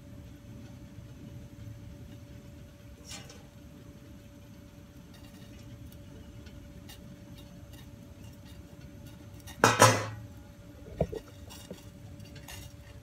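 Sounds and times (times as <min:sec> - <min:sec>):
faint steady hum: 0:00.0 - 0:13.0
gas burners hissing: 0:00.0 - 0:13.0.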